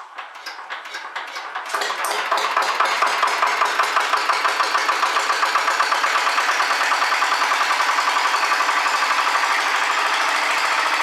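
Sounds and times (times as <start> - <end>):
old engine running: 0.0 - 11.0.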